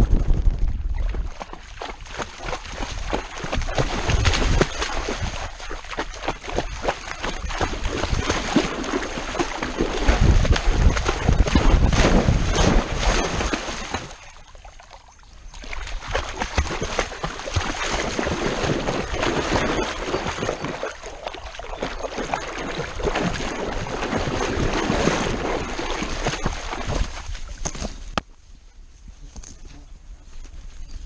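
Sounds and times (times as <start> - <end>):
water splashing from dog swimming: 0.1 - 28.0.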